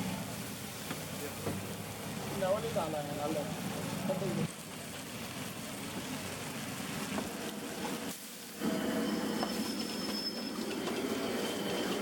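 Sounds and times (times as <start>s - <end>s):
food sizzling in a hot pan: 0.0s - 10.0s.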